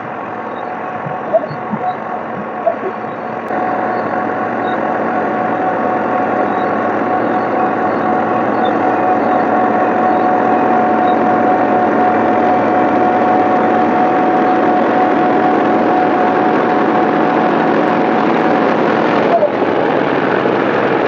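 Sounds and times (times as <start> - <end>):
thin steady whine: 0.0 - 21.0
tractor engine running: 0.0 - 21.0.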